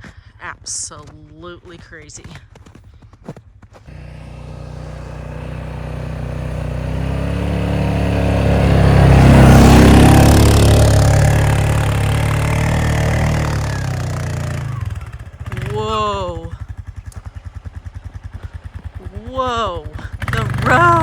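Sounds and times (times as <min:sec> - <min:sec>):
vehicle engine running: 0:03.8 - 0:21.0.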